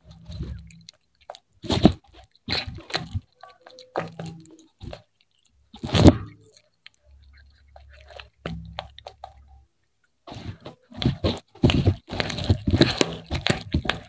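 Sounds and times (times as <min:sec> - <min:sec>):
cat crunching fried fish: 0:00.0 - 0:14.0.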